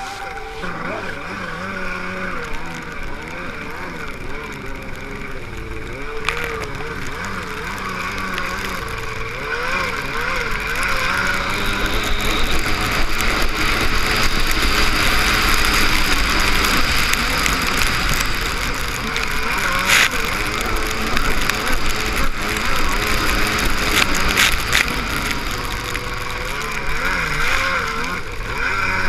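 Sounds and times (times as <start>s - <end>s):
jet ski engine: 0.0s - 29.0s.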